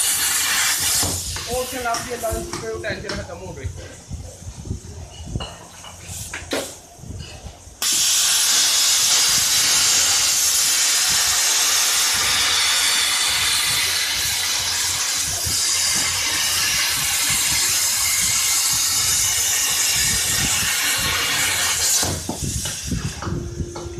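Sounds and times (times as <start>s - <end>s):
plasma cutter hissing: 0.0s - 3.2s, 7.7s - 23.9s.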